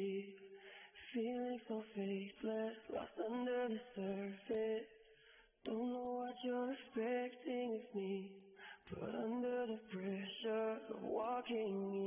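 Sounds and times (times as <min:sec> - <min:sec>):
pop song with sung vocals: 0:00.0 - 0:12.0.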